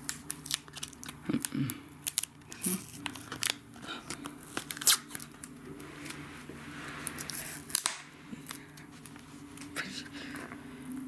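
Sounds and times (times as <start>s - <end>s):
plastic crinkling and tearing: 0.0s - 9.8s.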